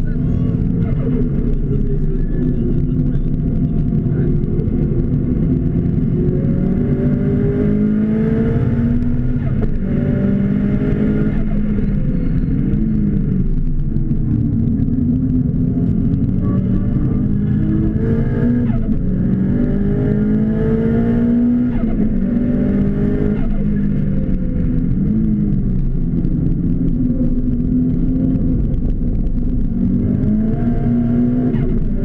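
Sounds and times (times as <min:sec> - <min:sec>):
car engine running hard: 0:00.0 - 0:32.0.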